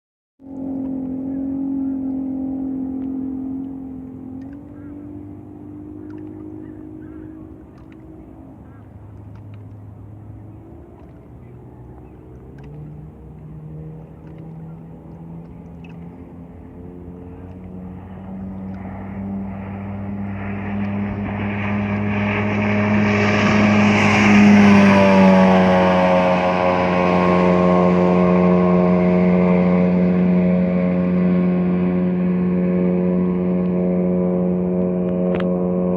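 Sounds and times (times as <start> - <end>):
speedboat engine passing by: 0.4 - 35.9.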